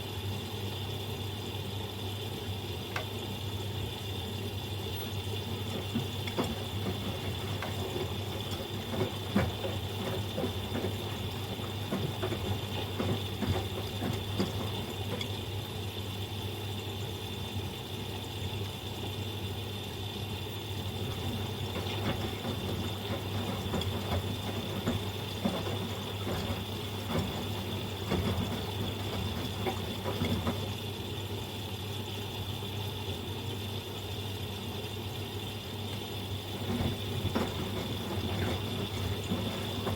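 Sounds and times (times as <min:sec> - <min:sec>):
washing machine motor hum: 0:00.0 - 0:39.9
water sloshing in washing machine: 0:00.0 - 0:39.9.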